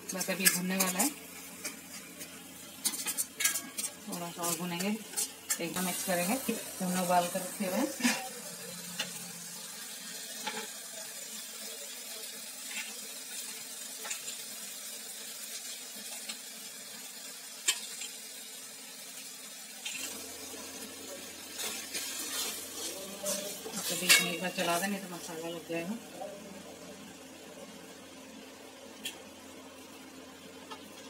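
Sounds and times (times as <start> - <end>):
masala sizzling in oil: 0.0 - 31.0.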